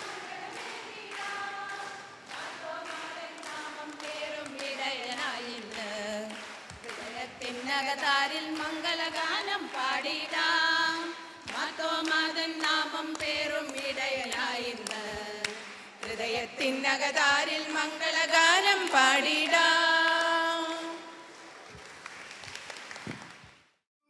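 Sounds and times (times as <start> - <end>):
group singing without instruments: 0.0 - 21.3
rhythmic hand clapping: 0.0 - 23.7.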